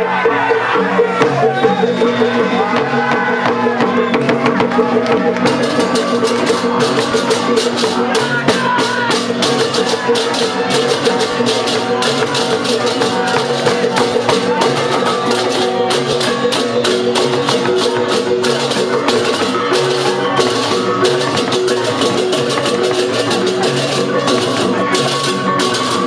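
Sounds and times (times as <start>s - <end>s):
gamelan percussion playing: 0.0s - 26.0s.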